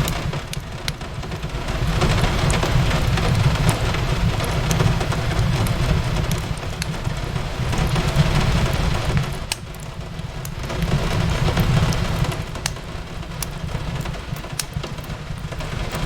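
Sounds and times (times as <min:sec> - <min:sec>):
fireplace crackling: 0:00.0 - 0:16.0
rain on a window: 0:00.0 - 0:16.0.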